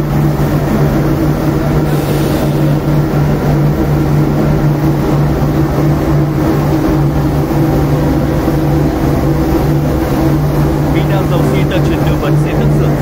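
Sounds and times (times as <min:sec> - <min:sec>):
coffee roaster mechanical hum: 0:00.0 - 0:13.0.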